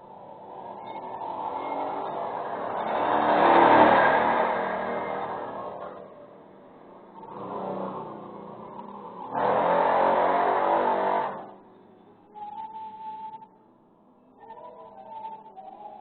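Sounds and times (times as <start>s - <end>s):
vehicles passing by: 0.0s - 13.5s.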